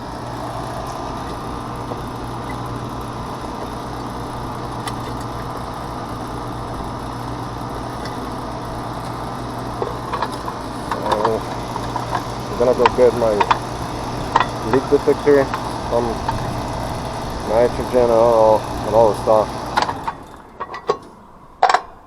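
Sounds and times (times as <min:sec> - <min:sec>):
air conditioner unit humming: 0:00.0 - 0:22.0.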